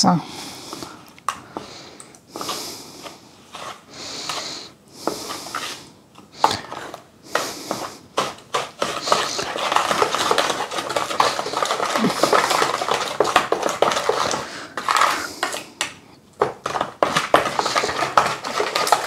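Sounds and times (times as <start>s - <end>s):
wooden spoon stirring thick mixture: 0.5s - 19.0s.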